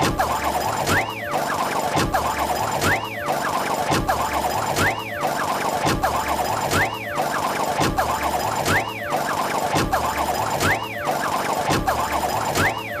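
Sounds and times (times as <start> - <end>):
jackhammer rattling: 0.0 - 13.0.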